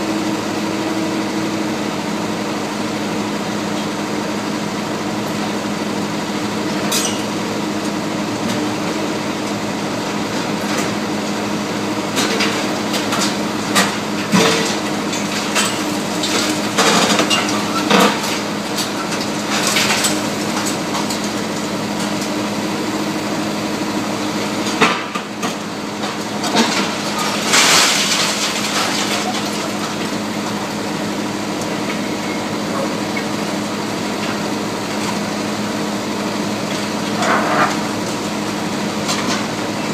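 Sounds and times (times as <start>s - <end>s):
excavator engine hum: 0.0s - 39.9s.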